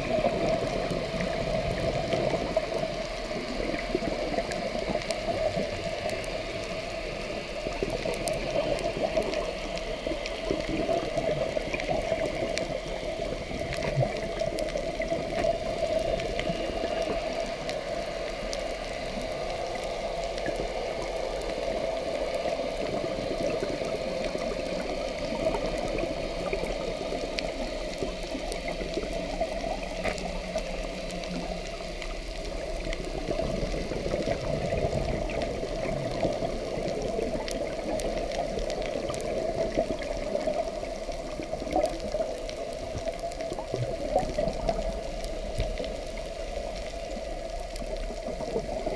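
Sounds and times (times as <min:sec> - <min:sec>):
faint underwater clicks: 0:00.0 - 0:48.9
muffled underwater wash: 0:00.0 - 0:48.9.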